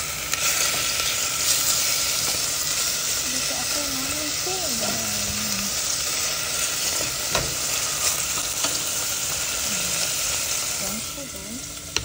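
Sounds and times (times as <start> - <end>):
pork sizzling in a pot: 0.0 - 12.0.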